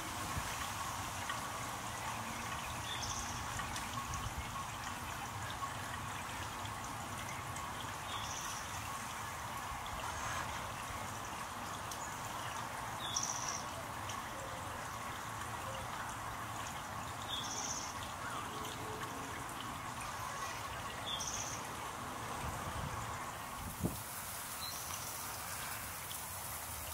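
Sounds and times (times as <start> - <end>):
fountain water splashing: 0.0 - 26.9.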